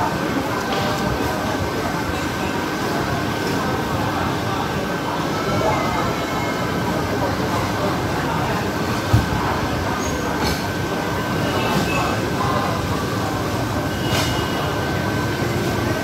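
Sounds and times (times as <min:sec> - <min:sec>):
faint indistinct chatter: 0:00.0 - 0:16.0
ventilation fan hum: 0:00.0 - 0:16.0.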